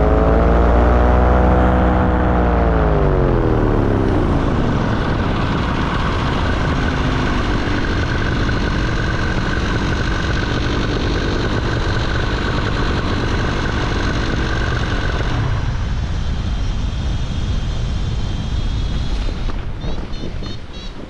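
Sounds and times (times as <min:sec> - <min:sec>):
small aircraft engine and propeller: 0:00.0 - 0:21.0
wind rumbling on microphone: 0:00.0 - 0:21.0.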